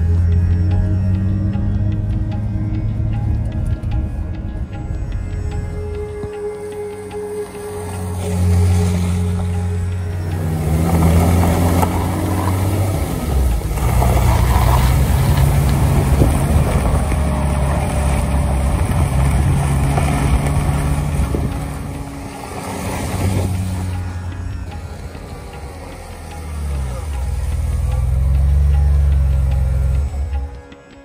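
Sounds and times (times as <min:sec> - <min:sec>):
car engine running: 0:00.0 - 0:30.8
tyres rolling over gravel: 0:03.4 - 0:30.5.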